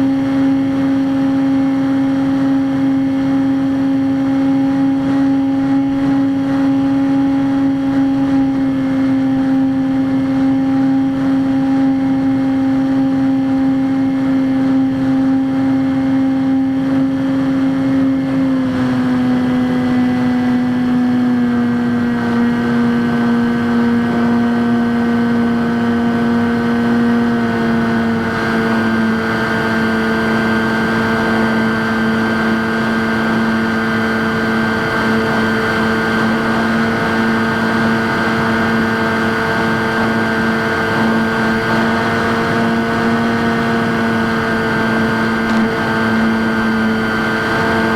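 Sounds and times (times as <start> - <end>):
electric motor and propeller droning: 0.0 - 47.9.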